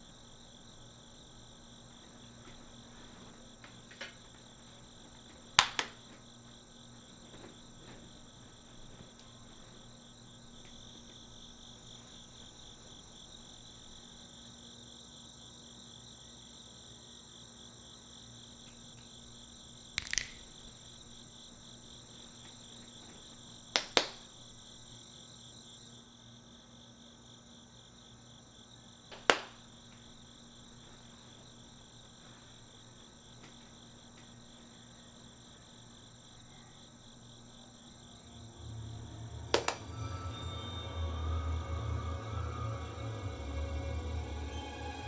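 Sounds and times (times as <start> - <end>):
crickets chirping: 0.0 - 45.0.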